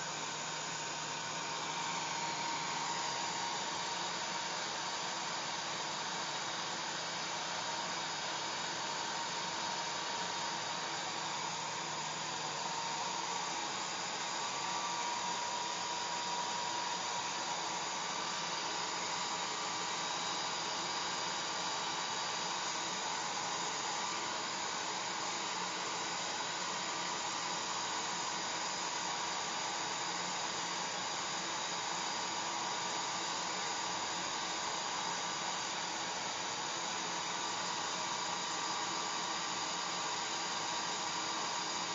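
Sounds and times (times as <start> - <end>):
faint motor whine: 0.0 - 41.9
hair dryer blowing air: 0.0 - 41.9.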